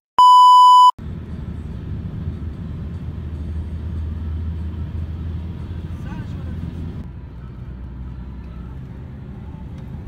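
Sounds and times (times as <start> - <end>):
car engine and road rumble: 0.2 - 10.0.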